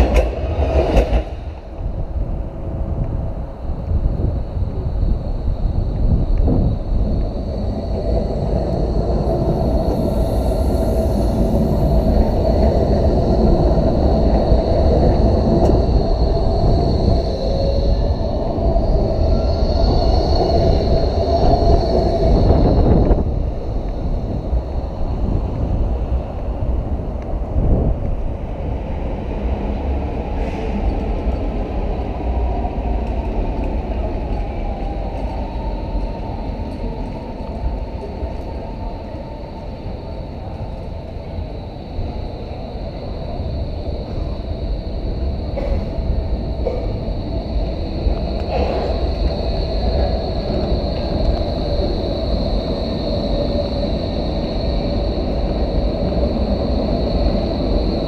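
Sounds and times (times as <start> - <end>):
tram wheels rumbling on rail: 0.0 - 58.0
tram whine: 0.0 - 58.0.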